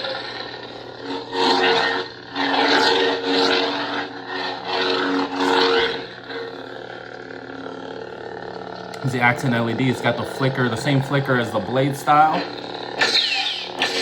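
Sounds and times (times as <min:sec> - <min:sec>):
lightsaber electric hum: 0:00.0 - 0:14.0.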